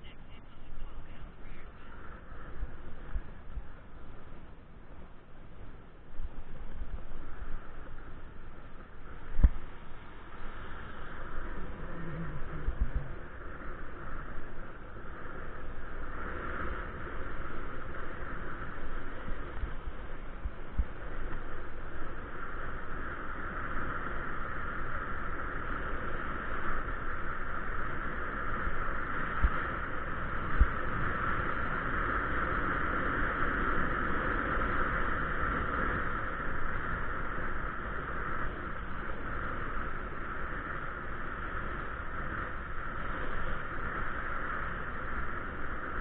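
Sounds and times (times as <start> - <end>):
wind and road noise from bicycle: 0.0 - 46.0.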